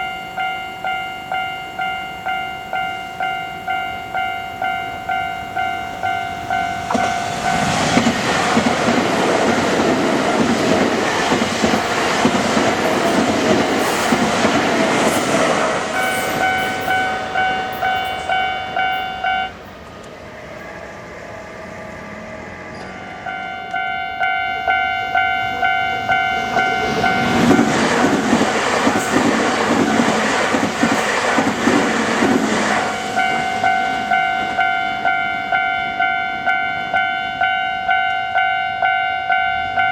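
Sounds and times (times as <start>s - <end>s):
crossing warning bell dinging: 0.0s - 39.9s
train rushing and rattling: 0.0s - 39.9s.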